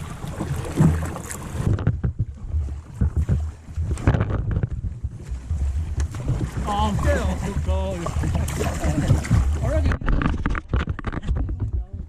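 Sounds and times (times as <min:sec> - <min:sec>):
paddle knocks: 0:00.0 - 0:11.9
water splashing from paddling: 0:00.0 - 0:11.9
wind on microphone: 0:00.0 - 0:12.0.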